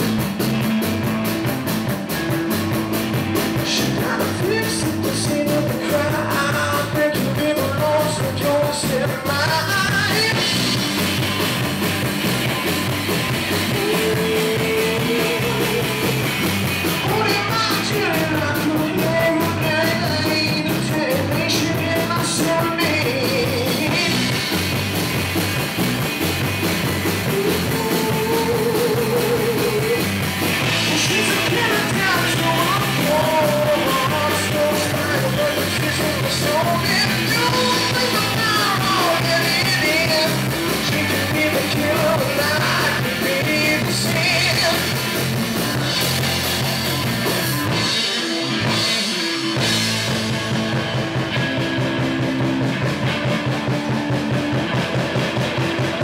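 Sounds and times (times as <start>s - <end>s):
live rock band: 0.0s - 56.0s
man singing lead: 0.0s - 56.0s.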